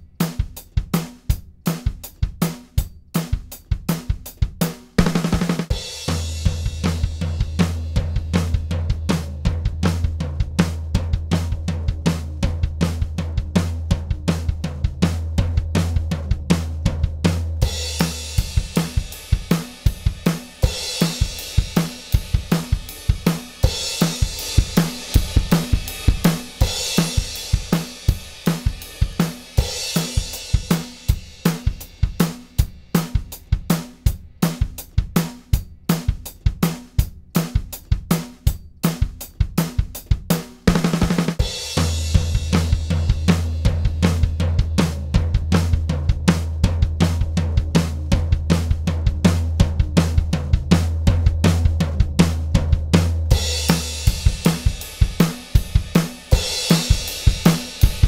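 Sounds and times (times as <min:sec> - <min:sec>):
drum kit groove: 0:00.0 - 0:58.0.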